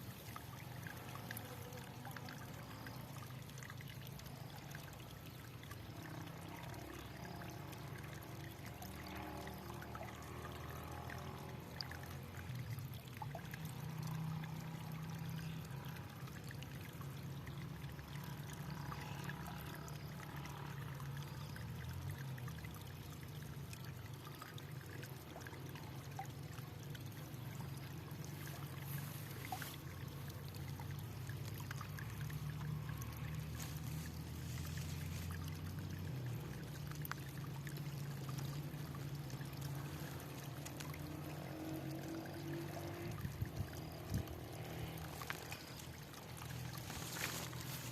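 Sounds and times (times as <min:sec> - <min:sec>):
water flowing and trickling: 0:00.0 - 0:47.9.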